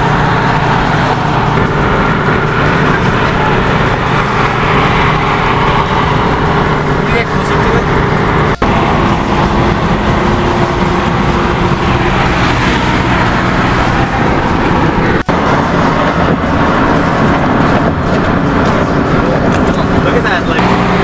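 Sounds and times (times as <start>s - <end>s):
car engine hum: 0.0s - 21.0s
tyre and wind roar: 0.0s - 21.0s.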